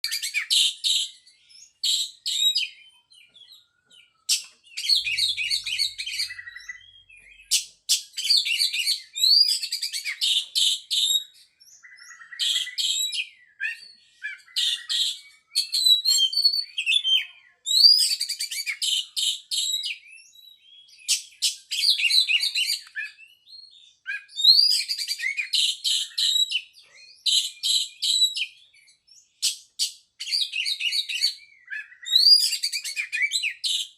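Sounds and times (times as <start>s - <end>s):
bird singing whistled phrases: 0.0s - 33.9s.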